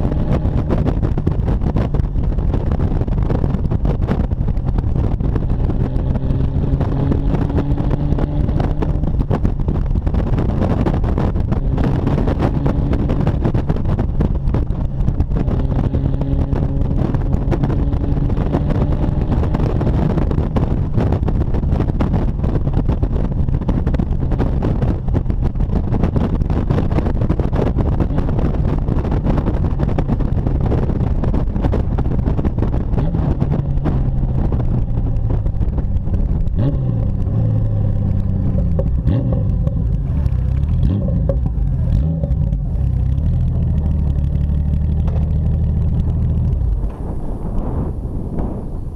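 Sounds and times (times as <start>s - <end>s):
motorcycle exhaust at full throttle: 0.0s - 48.9s.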